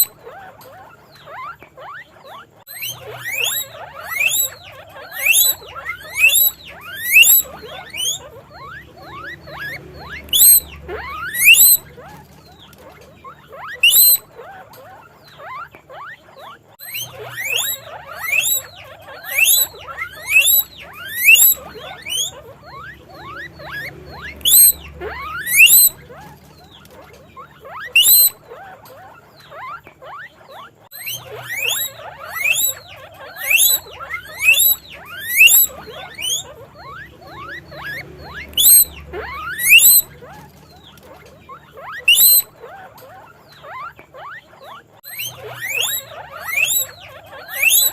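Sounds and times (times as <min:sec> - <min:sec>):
guinea pig wheeking: 0:00.0 - 0:47.9.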